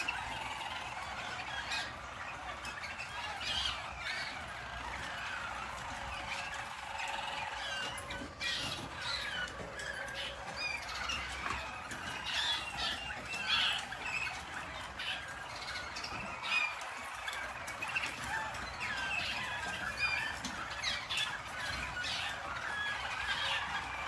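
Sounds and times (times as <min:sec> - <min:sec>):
canaries singing: 0:00.0 - 0:24.0.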